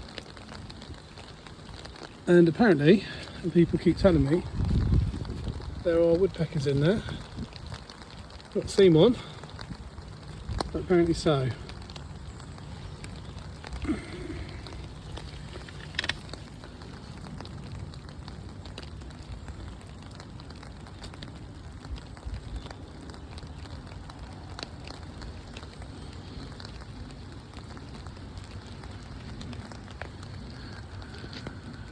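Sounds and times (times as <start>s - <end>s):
light clicks and crackles: 0.0s - 31.9s
outdoor rustling: 0.0s - 31.9s.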